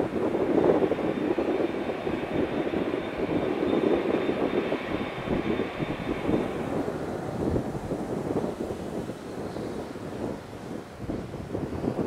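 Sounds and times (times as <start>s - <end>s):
faint high engine whine: 0.0s - 11.5s
jet engine rumbling: 0.0s - 12.0s.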